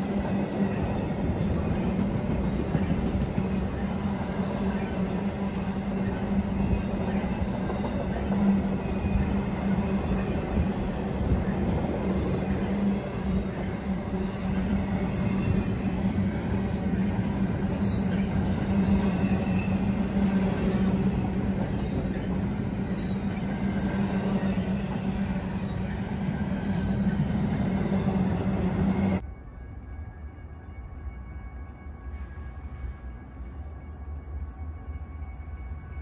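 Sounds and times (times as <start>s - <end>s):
train wheels on rails: 0.0s - 29.4s.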